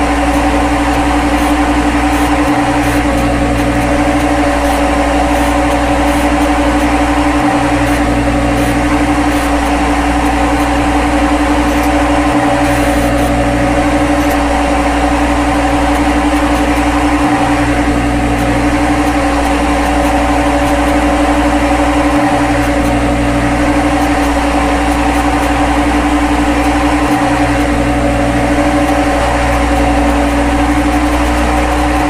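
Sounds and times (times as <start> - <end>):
synthetic machine hum with tones: 0.0 - 32.0.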